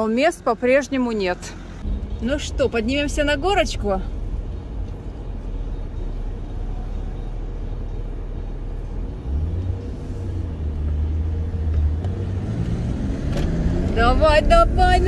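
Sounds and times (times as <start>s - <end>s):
road noise: 0.0s - 15.0s
car engine climbing hill: 1.8s - 15.0s.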